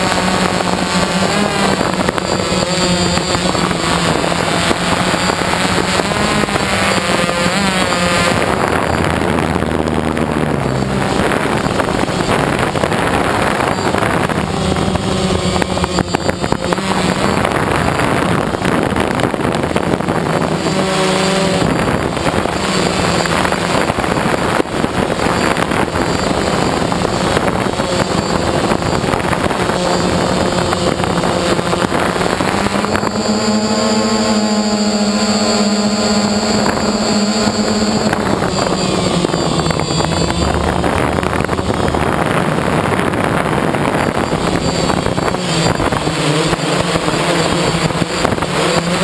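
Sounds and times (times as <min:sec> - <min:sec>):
drone motors humming: 0:00.0 - 0:49.0
rushing air: 0:00.0 - 0:49.0.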